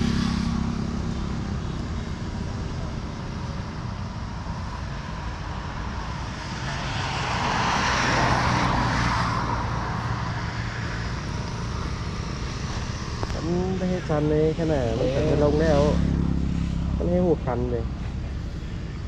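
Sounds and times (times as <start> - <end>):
road and wind noise: 0.0 - 19.0
rush of noise: 0.0 - 19.0
vehicle engine rumble: 0.0 - 19.0.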